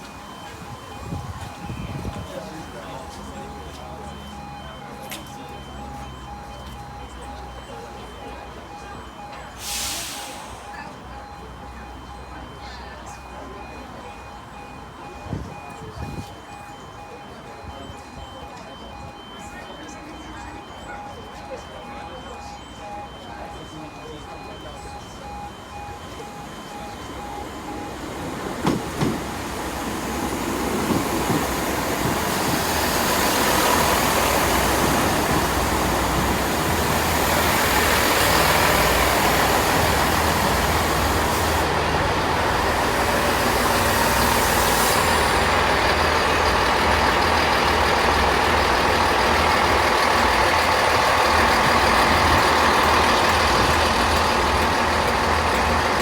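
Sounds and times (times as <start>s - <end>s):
diesel train running by: 0.0s - 56.0s.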